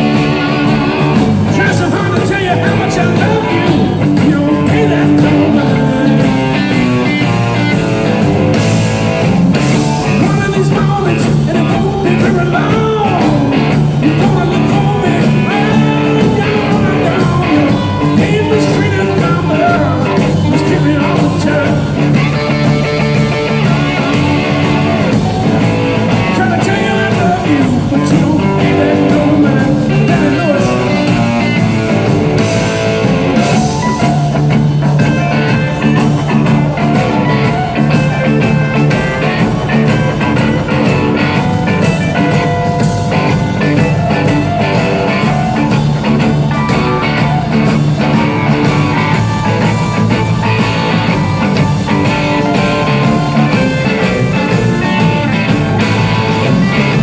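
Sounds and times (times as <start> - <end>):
bass guitar: 0.0 - 57.0
drums: 0.0 - 57.0
electric guitar: 0.0 - 57.0
keyboards: 0.0 - 57.0.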